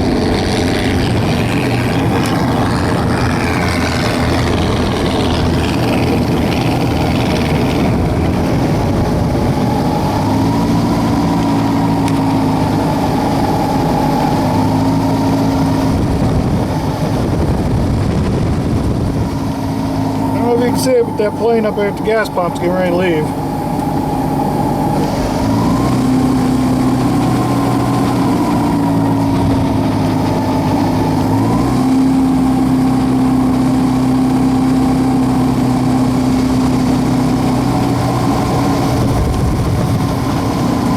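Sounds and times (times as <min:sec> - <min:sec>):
aircraft engine and propeller running: 0:00.0 - 0:40.9
steady pitched hum: 0:00.0 - 0:40.9.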